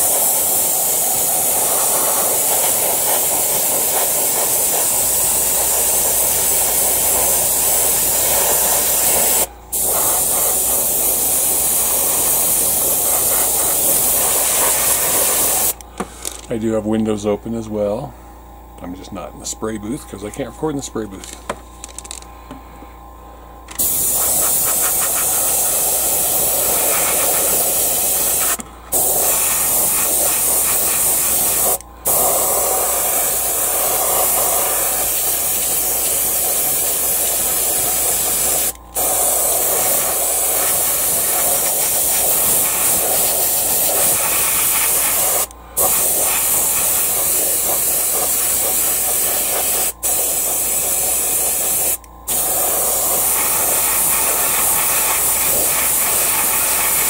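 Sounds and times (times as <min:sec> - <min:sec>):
airbrush hissing: 0:00.0 - 0:15.8, 0:23.8 - 0:57.0.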